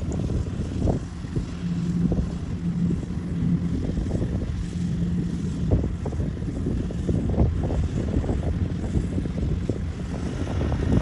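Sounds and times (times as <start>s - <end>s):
diesel engines droning: 0.0s - 11.0s
wind buffeting microphone: 0.0s - 11.0s.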